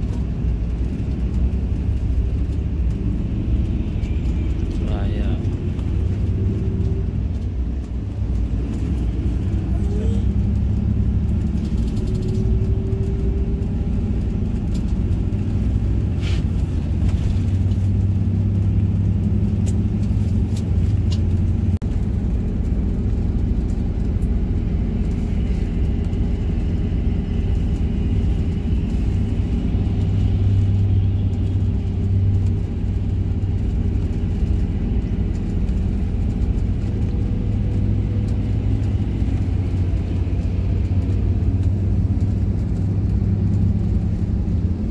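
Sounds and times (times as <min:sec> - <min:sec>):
coach engine and road rumble: 0:00.0 - 0:44.9.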